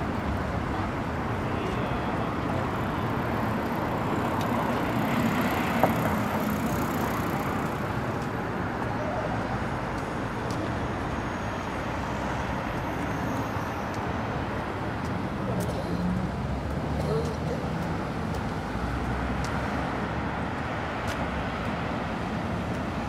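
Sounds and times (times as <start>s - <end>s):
city road traffic: 0.0s - 23.0s.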